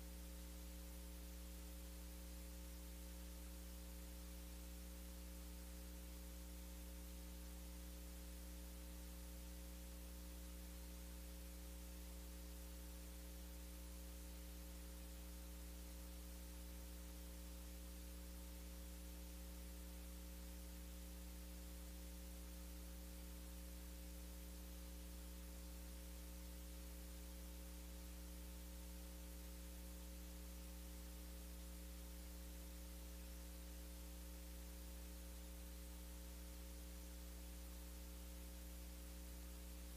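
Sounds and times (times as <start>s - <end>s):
electrical mains hum: 0.0s - 39.9s
faint hiss: 0.0s - 39.9s.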